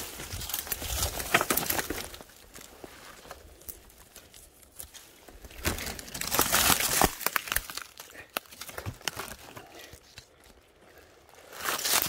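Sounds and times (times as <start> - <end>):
brittle material crinkling and crackling: 0.0 - 12.0.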